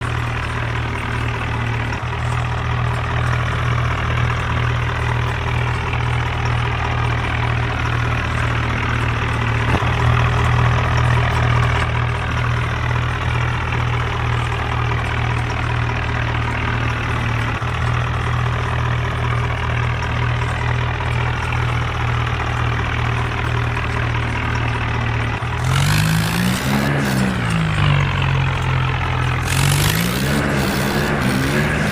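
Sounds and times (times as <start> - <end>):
tractor engine idling: 0.0 - 31.9.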